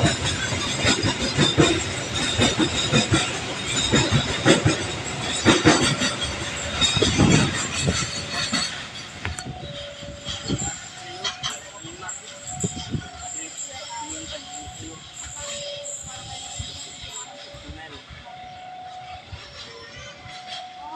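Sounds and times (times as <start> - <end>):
train wheels clattering on rails: 0.0 - 20.9.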